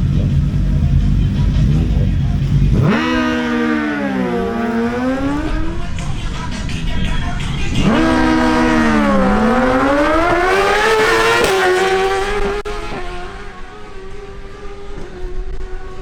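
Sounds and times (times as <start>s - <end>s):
sport bike engine running hard: 0.0s - 16.0s.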